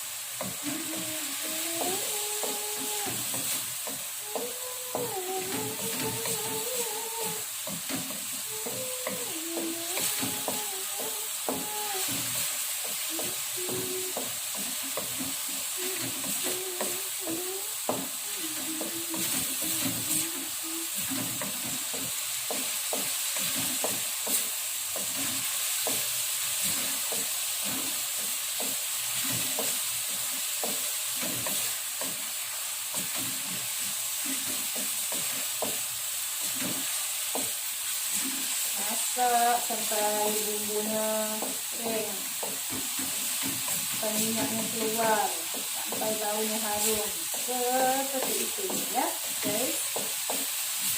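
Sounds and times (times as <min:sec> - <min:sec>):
paste sizzling in hot oil: 0:00.0 - 0:50.9
spatula scraping pan: 0:00.3 - 0:50.9.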